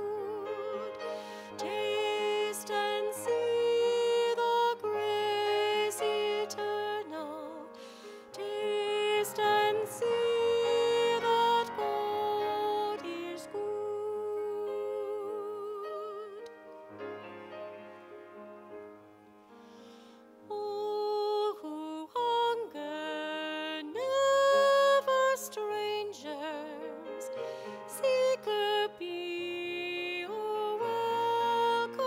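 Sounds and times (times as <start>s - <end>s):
person singing with vibrato: 0.0s - 16.5s, 20.4s - 32.0s.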